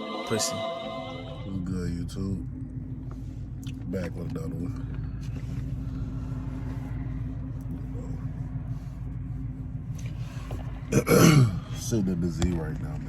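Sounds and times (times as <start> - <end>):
car engine idling rumble: 1.1 - 13.0.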